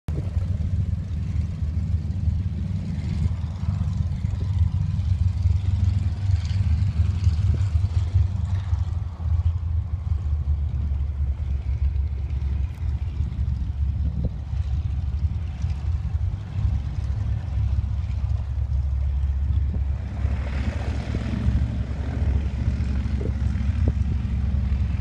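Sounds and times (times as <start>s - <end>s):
distant propeller plane engines: 0.1s - 25.0s
wind buffeting microphone: 0.1s - 25.0s.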